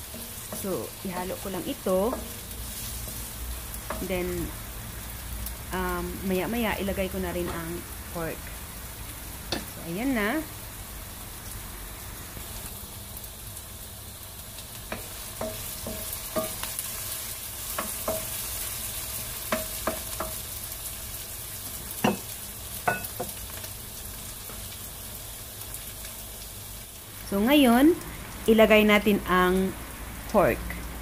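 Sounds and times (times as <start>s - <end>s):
onion and garlic sizzling in oil: 0.0s - 31.0s.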